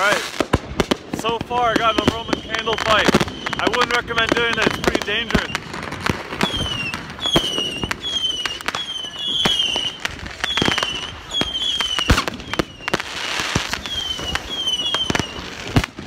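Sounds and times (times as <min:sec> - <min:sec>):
fireworks bangs and pops: 0:00.0 - 0:16.0
falling firework whistles: 0:01.5 - 0:16.0.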